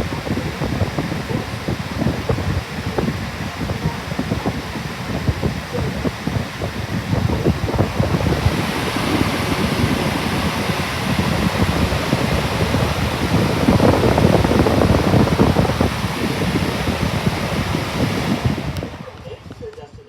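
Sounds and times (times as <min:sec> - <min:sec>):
box fan wind buffeting microphone: 0:00.0 - 0:20.0.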